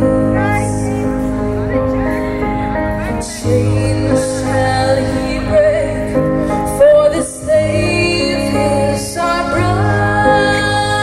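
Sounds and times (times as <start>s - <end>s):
woman singing: 0.0s - 1.4s, 3.0s - 11.0s
backing track through pa: 0.0s - 11.0s.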